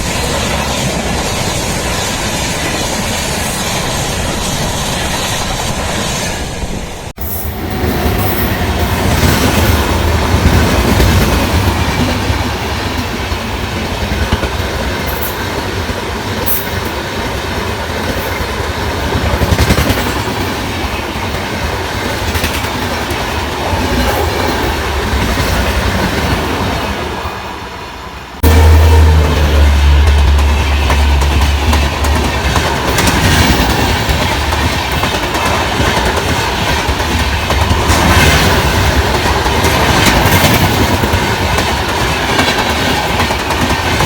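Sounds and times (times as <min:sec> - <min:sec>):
train wheels clattering on rails: 0:07.3 - 0:27.4, 0:28.4 - 0:44.0.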